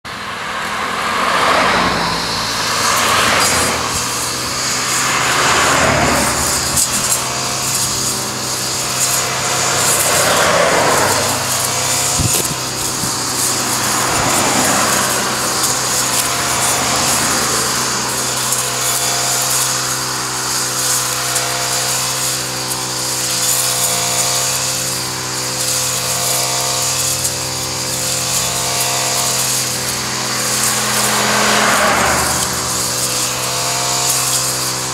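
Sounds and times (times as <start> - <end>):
brush cutter engine mowing: 0.0 - 34.9.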